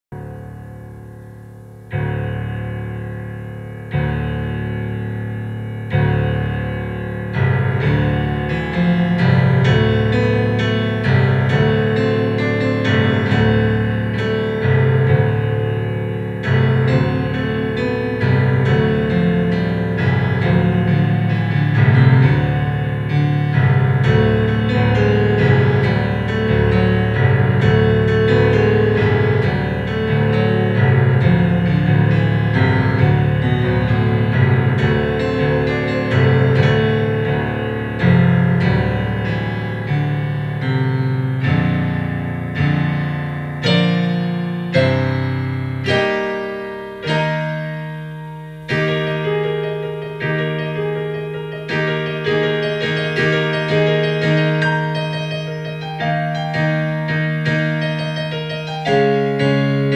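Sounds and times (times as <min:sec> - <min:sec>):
solo piano playing: 0:00.1 - 0:59.9.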